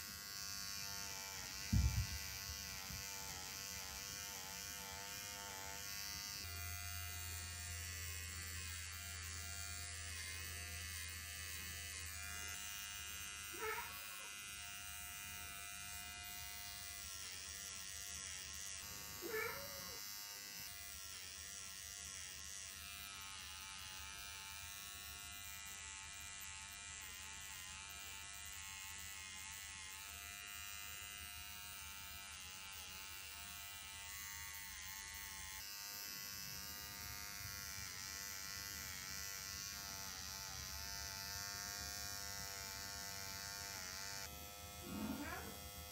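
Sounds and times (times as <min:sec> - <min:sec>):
pet hair clipper buzzing: 0:00.0 - 0:45.9.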